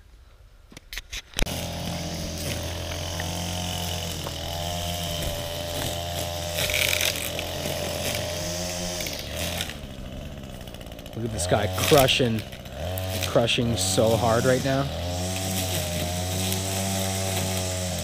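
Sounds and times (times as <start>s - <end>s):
string trimmer cutting weeds: 1.0s - 18.0s.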